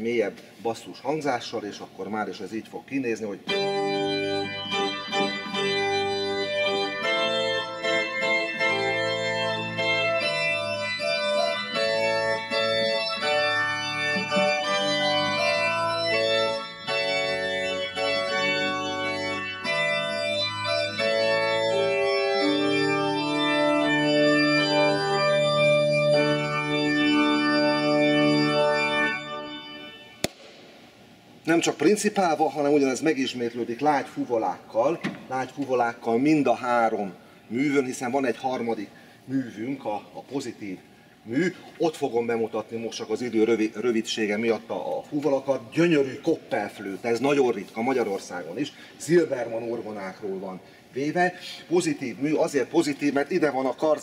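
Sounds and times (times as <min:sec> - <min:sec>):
pipe organ chords: 0:03.4 - 0:54.0.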